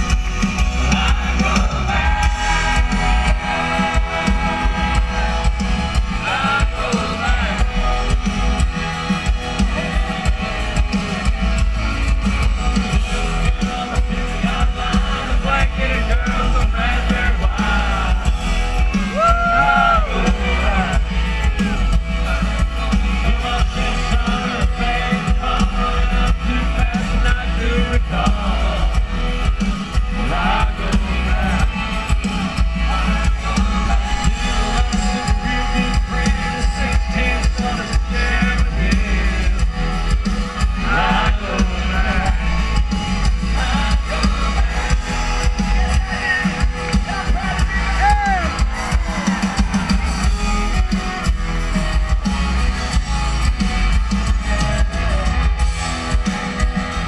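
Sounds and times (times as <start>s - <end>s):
country band playing live: 0.0s - 57.0s
drums: 0.0s - 57.0s
electric guitar: 0.0s - 57.0s.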